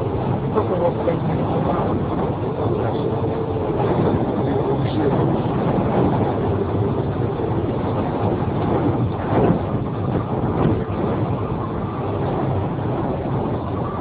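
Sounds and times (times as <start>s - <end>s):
wind blowing over microphone: 0.0s - 14.0s.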